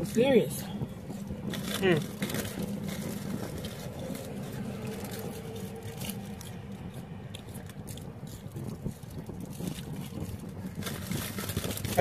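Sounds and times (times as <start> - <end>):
food handling clicks and rustles: 0.0 - 12.0.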